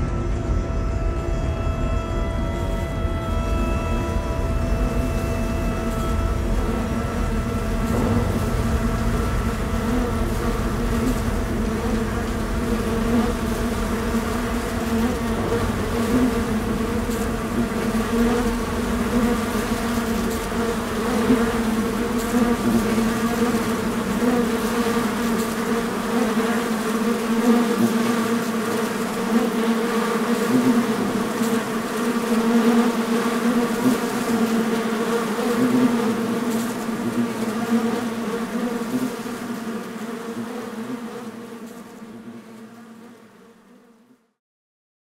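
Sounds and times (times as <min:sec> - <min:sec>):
honeybee colony buzzing: 0:01.6 - 0:43.8.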